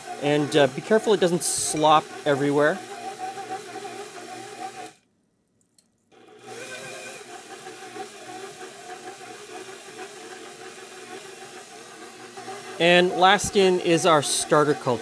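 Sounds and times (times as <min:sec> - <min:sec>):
stand mixer motor humming: 0:00.0 - 0:05.0, 0:06.2 - 0:15.0.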